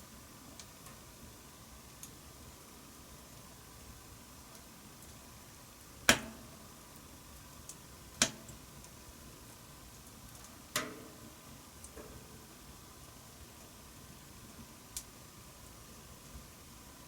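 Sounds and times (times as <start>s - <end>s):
low hiss: 0.0s - 17.0s
wood fire crackling: 0.0s - 17.0s.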